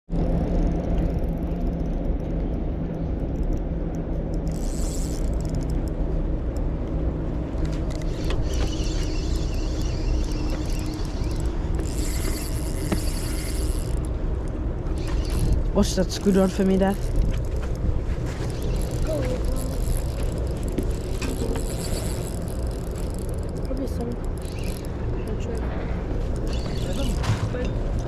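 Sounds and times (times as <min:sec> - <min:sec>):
low engine-like rumble: 0:00.1 - 0:28.0.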